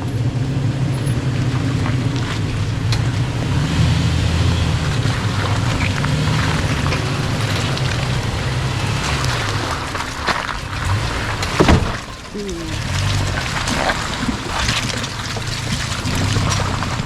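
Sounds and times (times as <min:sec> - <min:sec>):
tyre and suspension noise: 0:00.0 - 0:17.0
vehicle engine running slowly: 0:00.0 - 0:17.0
knocks from rocks: 0:00.5 - 0:17.0.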